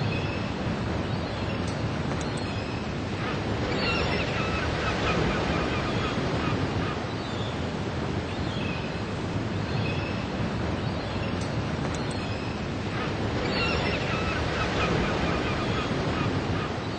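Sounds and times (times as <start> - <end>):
ocean surf washing ashore: 0.0 - 16.9.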